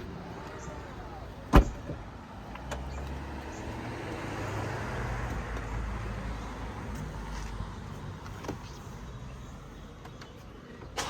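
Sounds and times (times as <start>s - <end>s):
car low hum: 0.0s - 11.0s.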